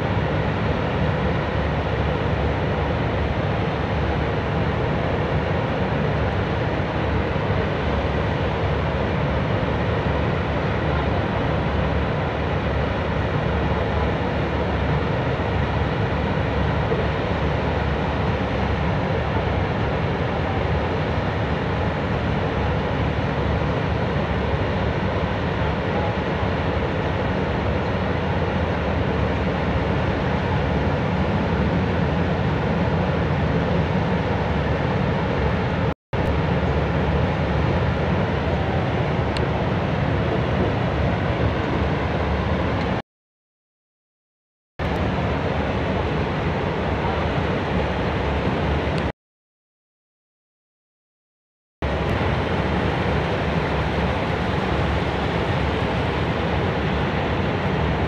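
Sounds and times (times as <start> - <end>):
machinery rumble: 0.0 - 43.0, 51.8 - 58.0.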